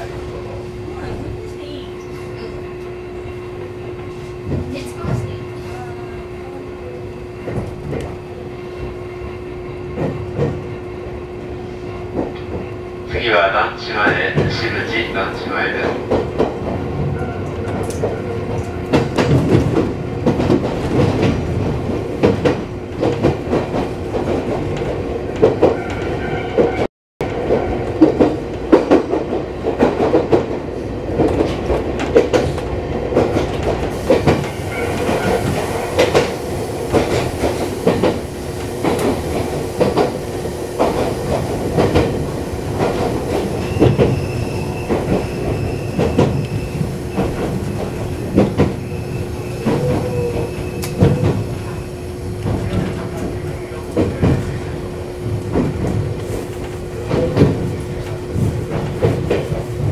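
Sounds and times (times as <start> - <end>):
electric train hum: 0.0 - 59.9.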